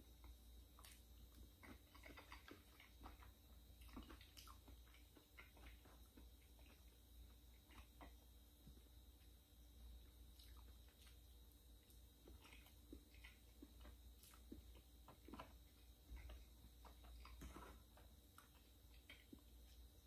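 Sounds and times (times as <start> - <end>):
chewing mouth sounds: 0.2 - 8.2, 10.3 - 19.9.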